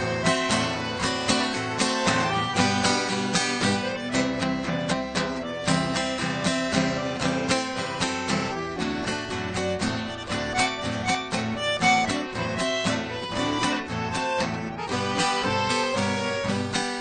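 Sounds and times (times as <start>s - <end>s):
plucked acoustic guitar melody: 0.0s - 17.0s
steady accompaniment: 0.0s - 17.0s.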